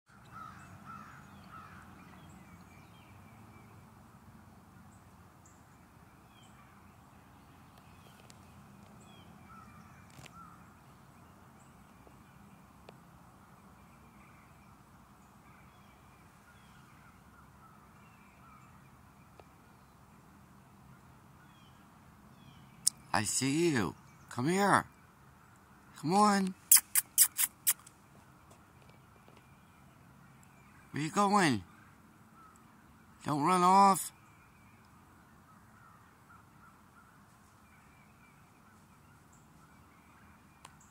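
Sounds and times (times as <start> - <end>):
faint bird calls: 0.1 - 40.9.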